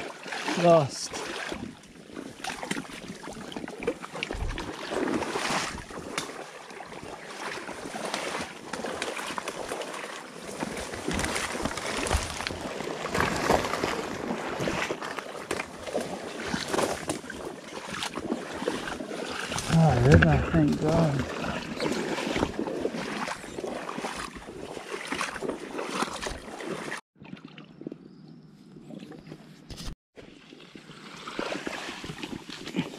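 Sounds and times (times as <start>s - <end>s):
footsteps splashing through water: 0.0s - 28.0s, 29.8s - 32.9s
squelches in mud: 0.0s - 32.9s.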